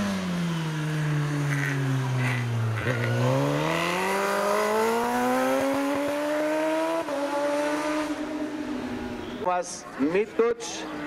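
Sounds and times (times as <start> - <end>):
superbike engine accelerating: 0.0 - 9.1.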